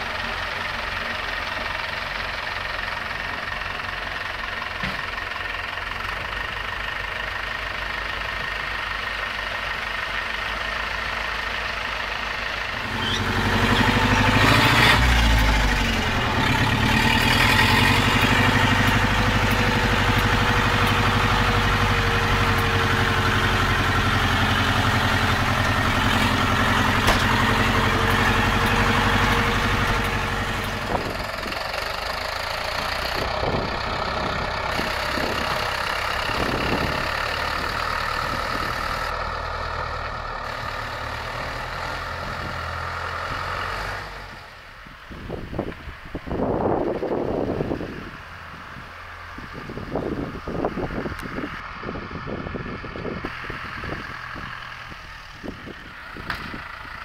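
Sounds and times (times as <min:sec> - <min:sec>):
tractor diesel engine revving: 0:00.0 - 0:57.0
tractor engine idling: 0:00.0 - 0:57.0.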